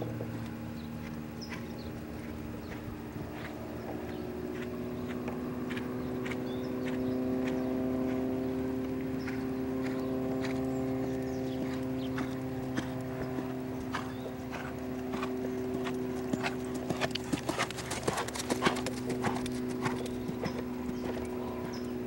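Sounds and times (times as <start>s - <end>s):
horse hooves striking ground: 0.0s - 22.0s
machine-like hum: 0.0s - 22.0s.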